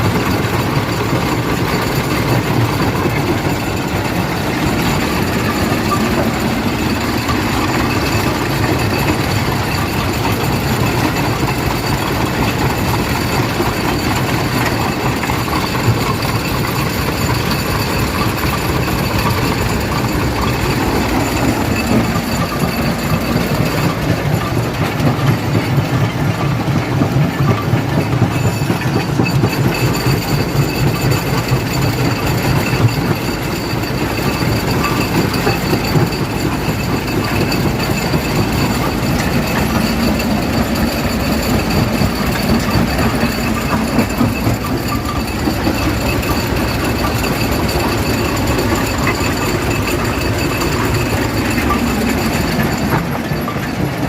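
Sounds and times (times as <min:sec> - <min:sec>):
machinery high whine: 0:00.0 - 0:54.0
stone crusher rumbling: 0:00.0 - 0:54.0.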